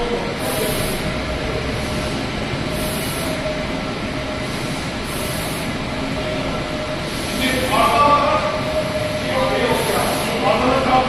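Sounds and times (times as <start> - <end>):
printer mechanical rumble and hiss: 0.0 - 11.0.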